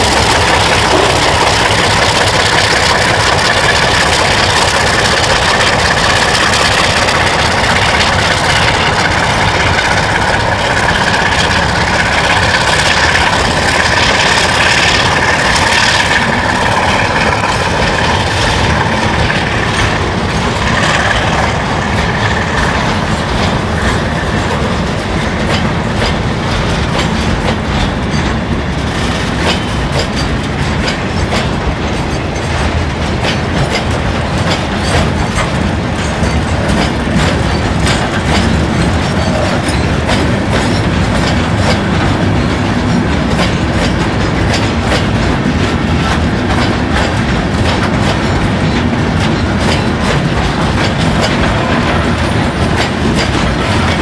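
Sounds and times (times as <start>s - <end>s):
diesel locomotive engine under load: 0.0s - 54.0s
wheels clicking over rail joints: 0.0s - 54.0s.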